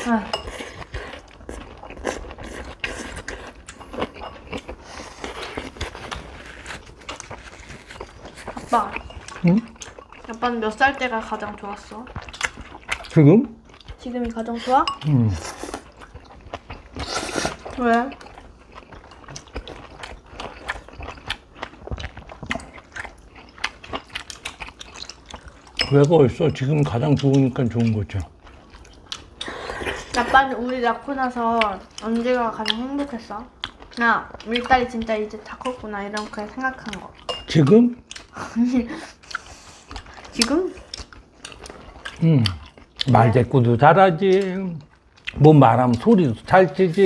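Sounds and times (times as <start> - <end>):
chewing: 0.0 - 47.0.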